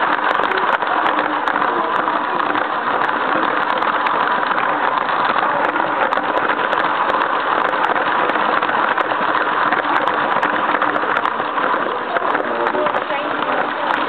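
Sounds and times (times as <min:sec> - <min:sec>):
plastic wheels rattling on track: 0:00.0 - 0:14.0
small electric train motor: 0:00.0 - 0:14.0.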